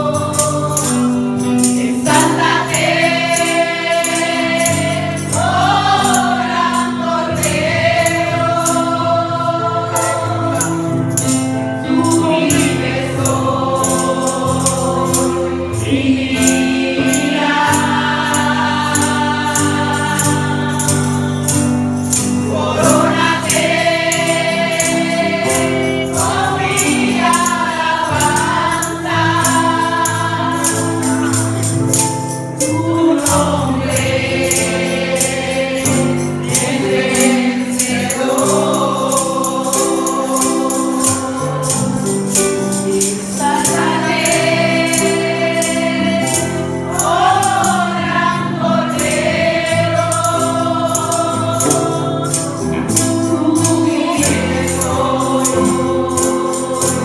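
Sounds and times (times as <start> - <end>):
group singing gospel song: 0.0 - 57.0
tambourine beat: 0.0 - 57.0.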